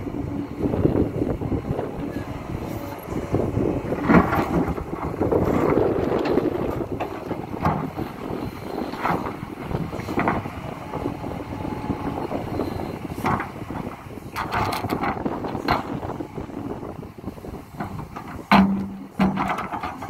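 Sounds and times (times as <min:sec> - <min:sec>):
excavator diesel rumble: 0:00.0 - 0:20.0
wind on microphone: 0:00.0 - 0:20.0.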